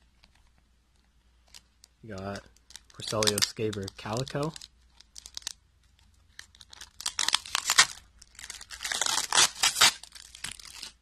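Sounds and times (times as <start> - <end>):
plastic crinkling and crackling: 0.0 - 11.0.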